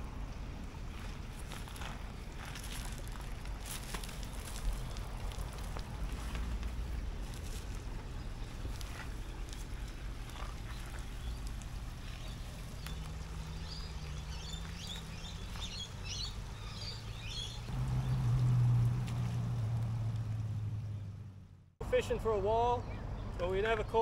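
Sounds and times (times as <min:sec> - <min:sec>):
low rumble: 0:00.0 - 0:21.8
birds chirping: 0:00.4 - 0:24.0.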